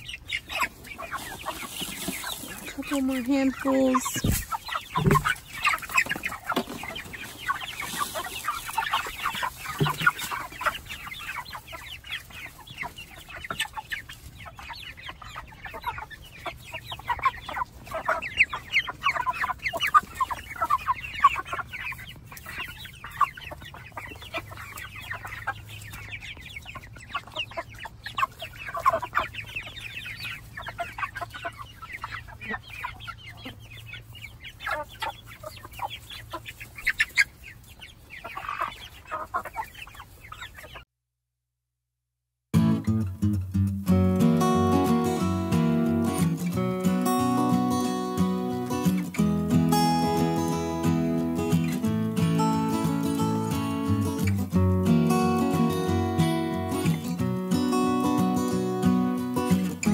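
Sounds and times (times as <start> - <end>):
chickens clucking: 0.0 - 40.9, 42.7 - 59.9.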